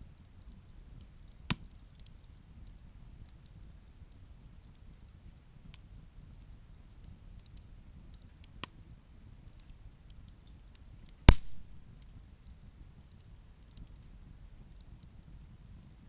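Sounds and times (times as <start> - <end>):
burning wood popping: 0.0 - 16.0
wood fire crackling: 0.0 - 16.0.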